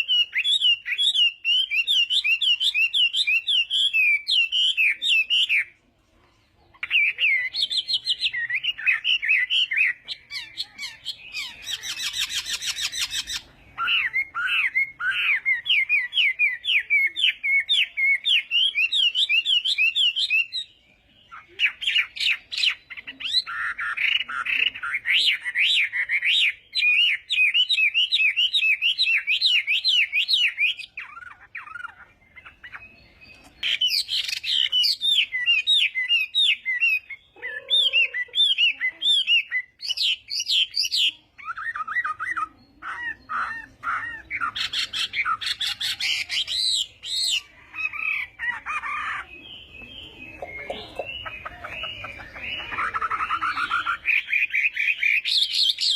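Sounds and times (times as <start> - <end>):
bird singing whistled notes: 0.0 - 5.8, 6.8 - 55.9.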